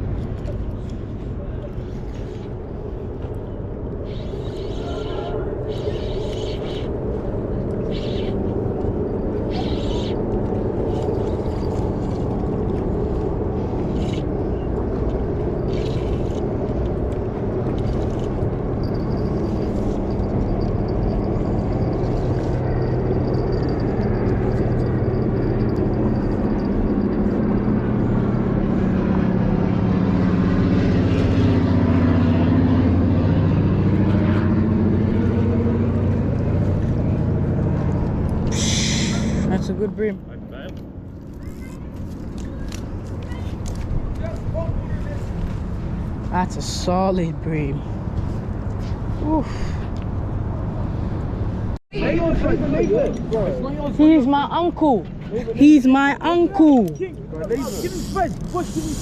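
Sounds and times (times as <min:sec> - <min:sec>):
low engine rumble: 0:00.0 - 0:53.6.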